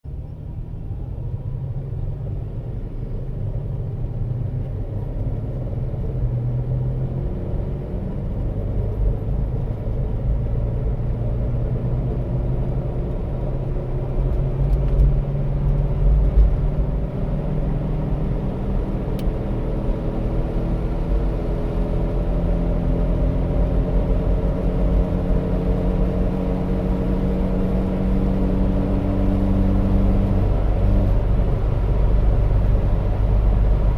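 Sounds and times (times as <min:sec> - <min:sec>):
road rumble: 0:00.0 - 0:33.9
car driving at highway speed: 0:00.1 - 0:33.9.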